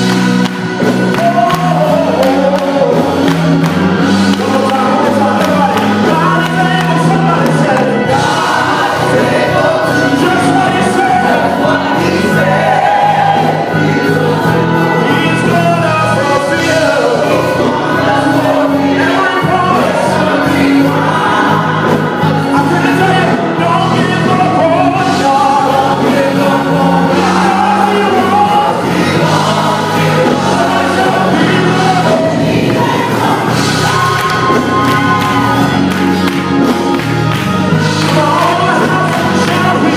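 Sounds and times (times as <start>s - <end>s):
gospel choir singing: 0.0s - 39.9s
instrumental accompaniment: 0.0s - 39.9s.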